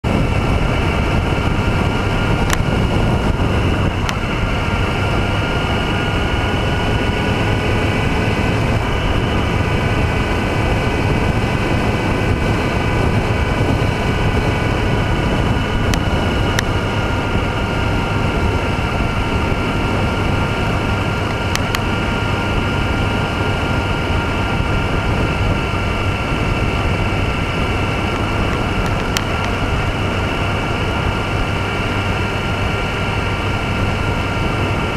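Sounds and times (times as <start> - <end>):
motorcycle engine cruising: 0.0 - 34.9
wind and road noise: 0.0 - 34.9.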